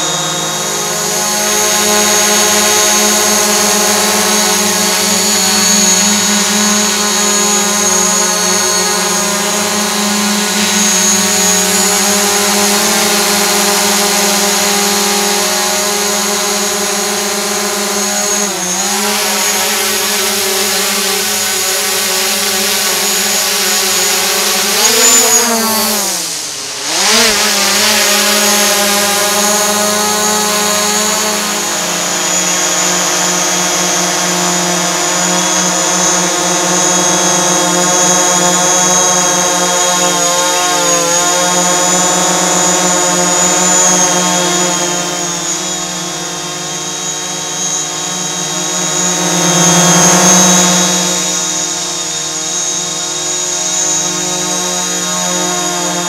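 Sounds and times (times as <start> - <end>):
drone buzzing whine: 0.0 - 56.0.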